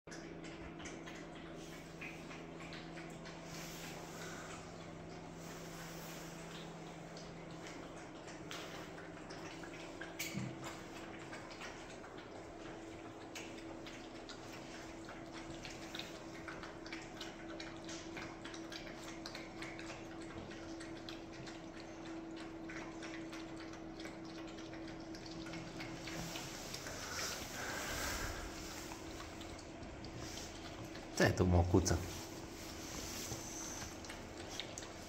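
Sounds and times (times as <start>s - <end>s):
faint steady hum: 0.1s - 35.0s
puppies eating wet food: 0.1s - 35.0s.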